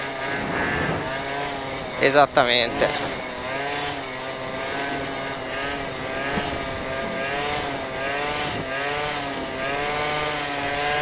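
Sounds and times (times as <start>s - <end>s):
scooter engine revving high: 0.0s - 11.0s.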